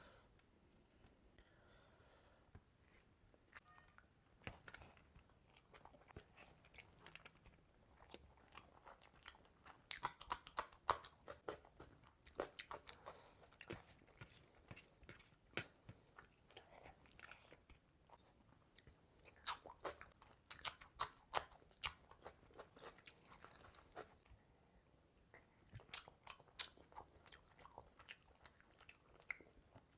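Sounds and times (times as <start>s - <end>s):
crunching and chewing fish: 4.3s - 24.3s, 25.3s - 29.9s.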